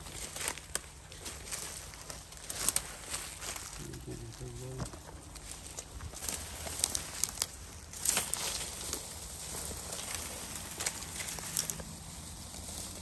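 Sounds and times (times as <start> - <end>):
footsteps crunching through dry leaves: 0.0 - 13.0
twigs snapping and crackling: 0.0 - 13.0.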